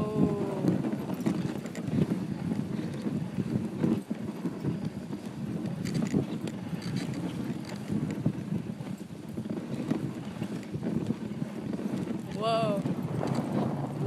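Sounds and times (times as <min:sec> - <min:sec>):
sled runners scraping on snow: 0:00.0 - 0:14.0
dogs' feet padding: 0:00.5 - 0:14.0.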